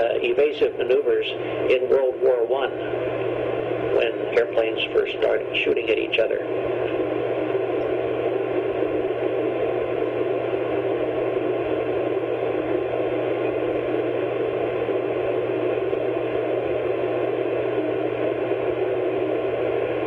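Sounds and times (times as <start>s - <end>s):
recording hiss with low hum: 0.0s - 20.0s.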